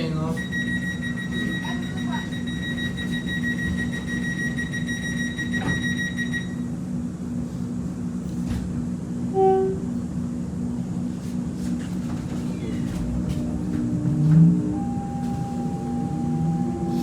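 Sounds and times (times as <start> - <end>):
train electrical hum: 0.0 - 17.0.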